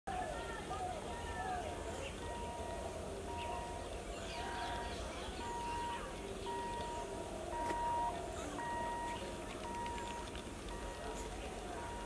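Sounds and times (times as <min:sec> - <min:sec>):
faint low rumble: 0:00.1 - 0:12.0
level crossing warning beeps: 0:02.1 - 0:12.0.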